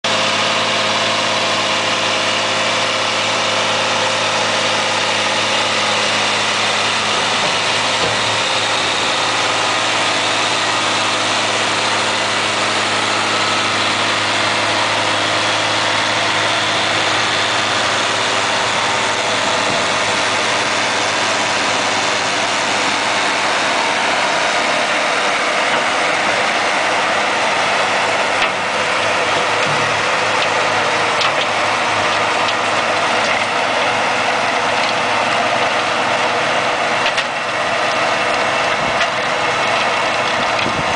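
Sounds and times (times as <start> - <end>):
tractor diesel engine running: 0.0 - 40.9
rotary tines churning soil: 0.1 - 40.9.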